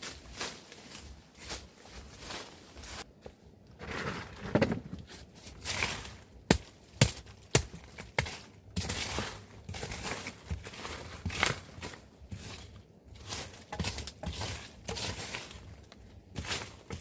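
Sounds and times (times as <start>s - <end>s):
rustling leaves and brush: 0.0s - 17.0s.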